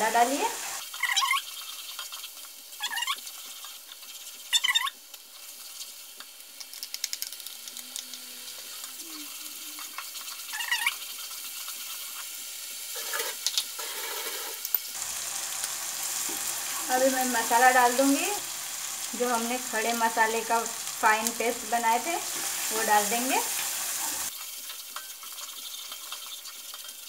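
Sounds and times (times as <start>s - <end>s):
onion sizzling in oil: 0.0s - 27.0s.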